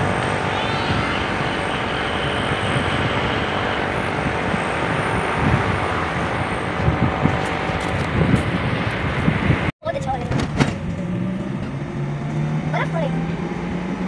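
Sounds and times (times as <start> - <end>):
vehicle road noise: 0.0 - 14.0
wind rushing: 0.0 - 14.0.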